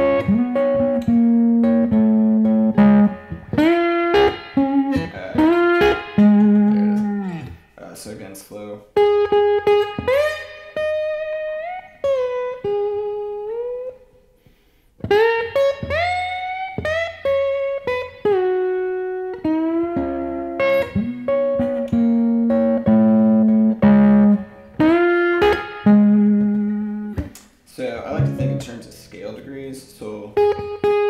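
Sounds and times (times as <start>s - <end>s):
slide electric guitar: 0.0s - 7.8s, 9.0s - 14.0s, 15.0s - 27.4s, 28.0s - 29.2s, 30.4s - 31.0s.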